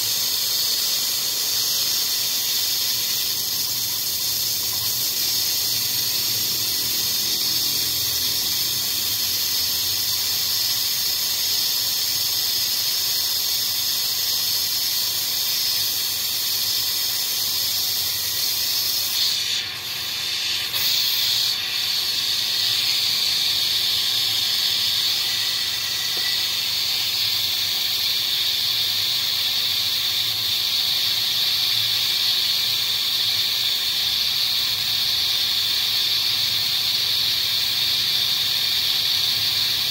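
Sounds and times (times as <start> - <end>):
high-pitched air hiss: 0.0 - 39.9.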